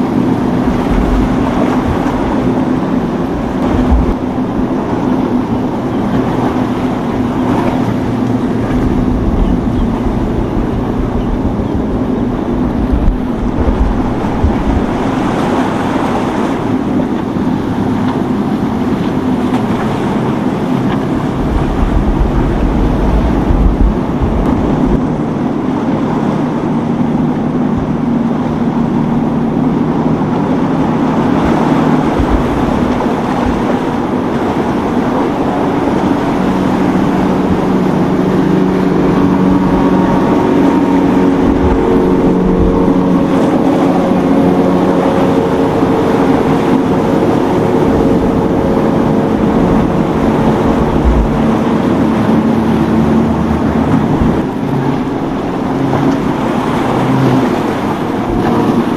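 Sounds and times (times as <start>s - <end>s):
boat engines droning: 0.0s - 58.9s
waves breaking: 0.0s - 58.9s
wind buffeting microphone: 0.0s - 58.9s.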